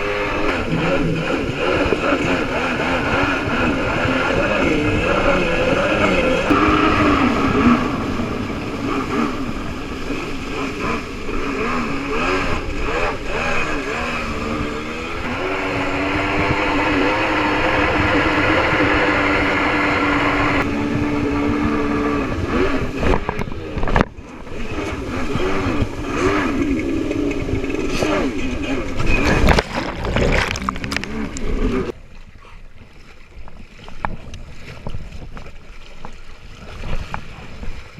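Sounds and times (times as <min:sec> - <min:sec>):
jet ski engine running: 0:00.0 - 0:37.9.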